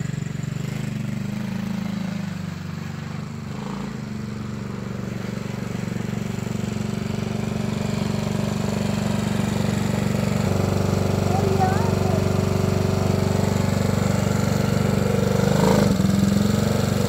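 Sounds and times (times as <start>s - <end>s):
small atv engine running: 0.0s - 17.0s.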